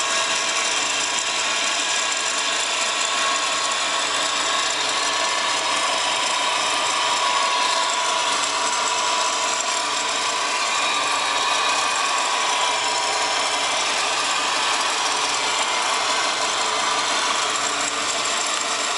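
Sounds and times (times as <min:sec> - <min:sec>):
car engine idling: 0:00.0 - 0:18.9
rattle and whine from engine: 0:00.0 - 0:18.9.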